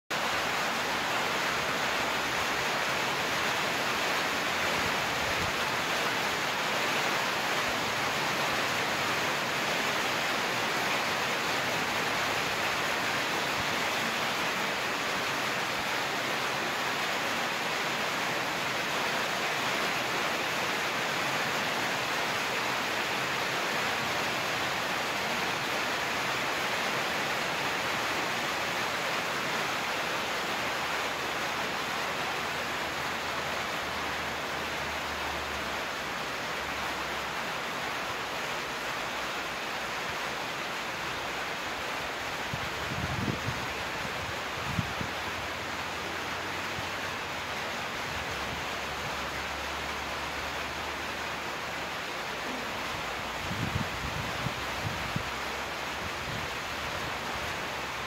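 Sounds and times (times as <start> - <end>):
steady rain: 0.1 - 58.0.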